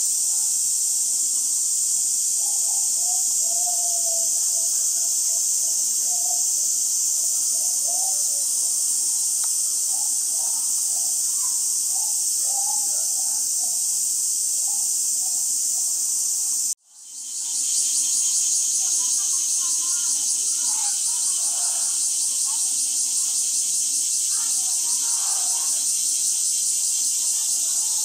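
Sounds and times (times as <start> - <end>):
high-pitched insect chorus: 0.0 - 28.0
faint voices: 2.2 - 26.1, 26.7 - 28.0.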